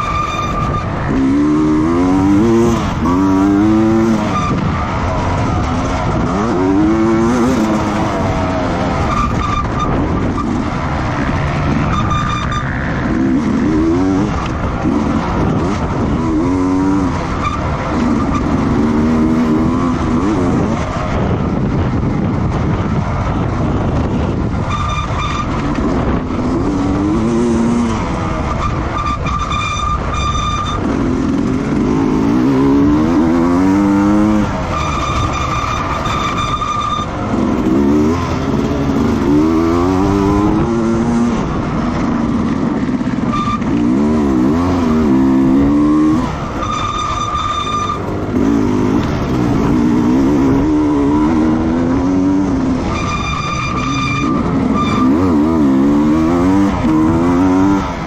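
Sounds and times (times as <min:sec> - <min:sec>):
racing engines at speed: 0:00.0 - 0:58.0.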